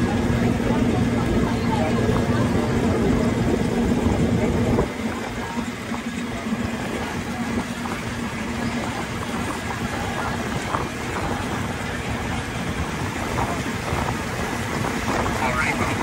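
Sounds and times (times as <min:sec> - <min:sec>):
faint voices: 0:00.0 - 0:16.0.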